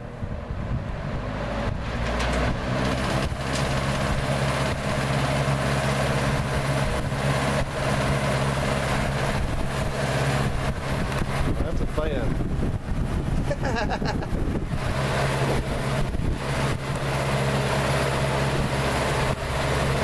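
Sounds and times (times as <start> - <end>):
electric fan running: 0.0 - 20.0.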